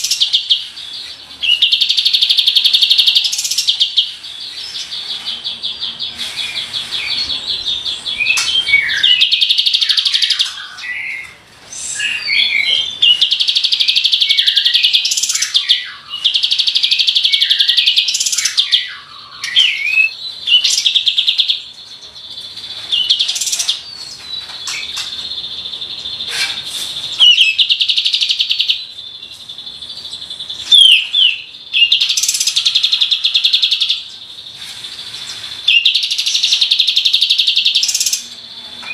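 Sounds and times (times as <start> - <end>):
bird singing rolling trills: 0.0 - 38.9.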